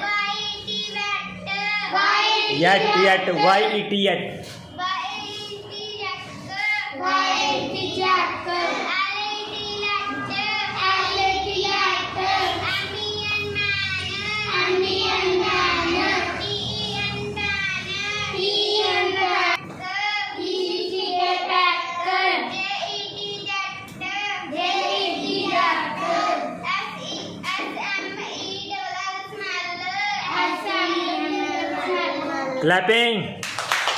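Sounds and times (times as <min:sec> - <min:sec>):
children chanting in unison: 0:00.0 - 0:03.9, 0:04.8 - 0:32.6.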